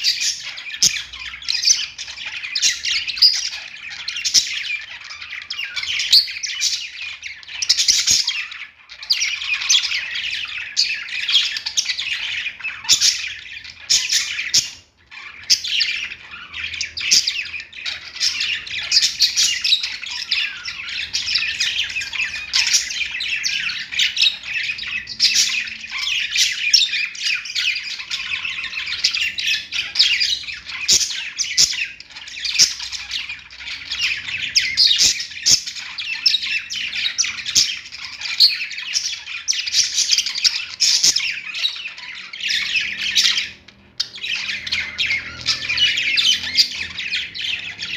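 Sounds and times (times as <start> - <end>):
budgerigars chirping and warbling: 0.0 - 47.9.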